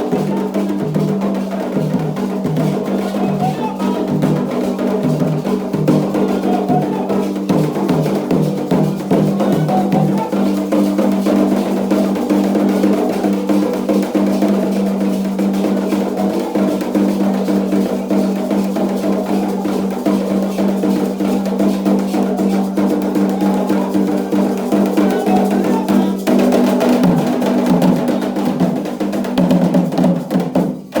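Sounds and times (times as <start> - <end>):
fast hand drumming: 0.0 - 31.0.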